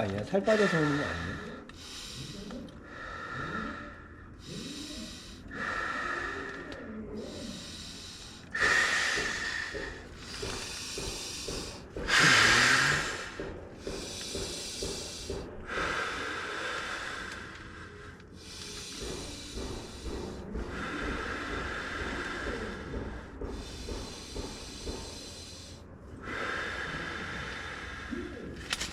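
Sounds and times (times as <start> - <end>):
man breathing heavily: 0.0 - 28.9.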